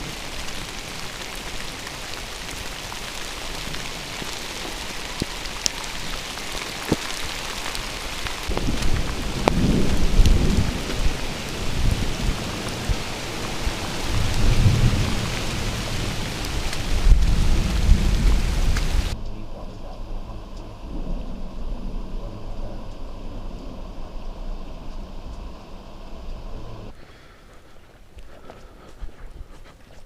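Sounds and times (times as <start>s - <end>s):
heavy rain hissing: 0.0s - 27.5s
low rumbles: 0.0s - 29.9s.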